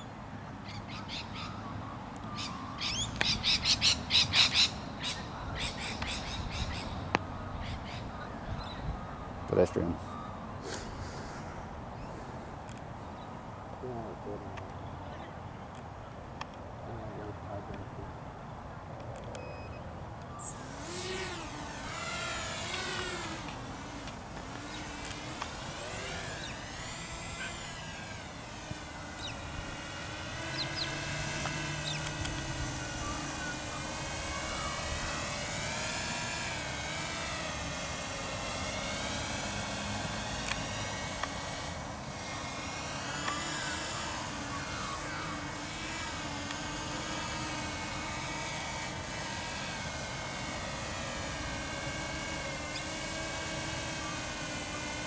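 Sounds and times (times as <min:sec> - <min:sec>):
drone propellers whining: 0:00.8 - 0:14.8, 0:19.2 - 0:55.0.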